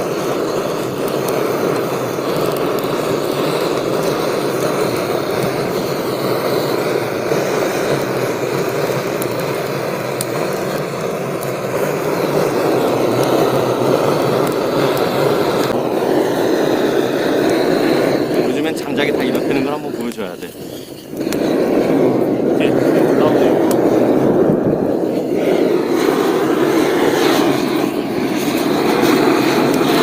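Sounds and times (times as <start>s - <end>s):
fire crackling pops: 0.0s - 30.0s
fire roaring: 0.0s - 30.0s.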